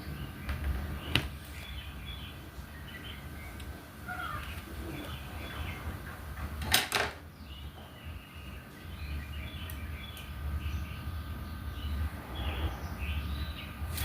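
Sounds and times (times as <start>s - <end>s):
small birds chirping: 0.0s - 6.6s, 7.2s - 14.0s
low steady hum: 0.0s - 14.0s.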